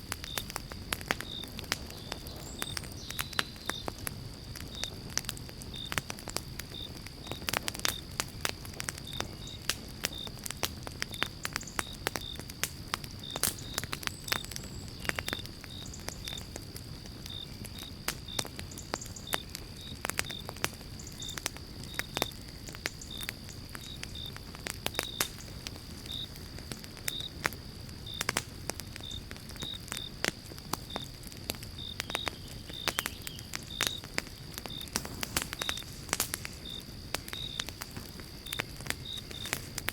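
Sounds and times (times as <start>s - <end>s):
campfire crackling and popping: 0.0s - 39.9s
insect chirping: 0.0s - 39.9s.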